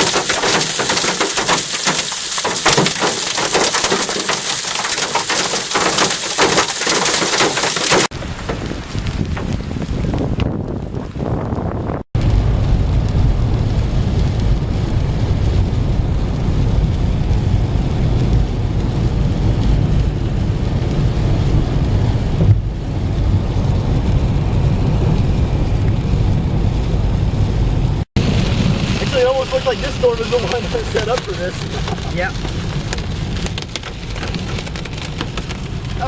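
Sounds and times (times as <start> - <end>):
car driving in heavy rain: 0.0 - 36.0.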